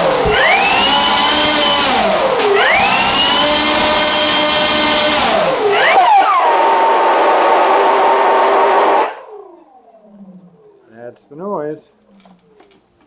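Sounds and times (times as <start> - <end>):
electric motor and propeller whine: 0.0 - 10.6.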